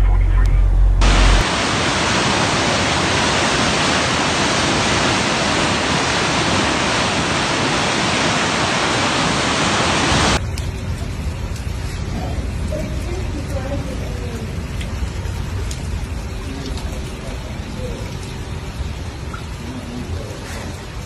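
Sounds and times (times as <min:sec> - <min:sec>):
floodwater rushing: 0:01.0 - 0:21.0.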